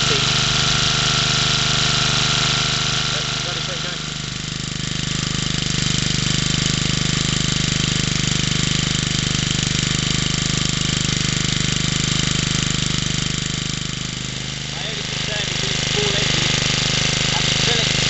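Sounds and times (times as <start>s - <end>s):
small stationary engine running: 0.0s - 18.0s.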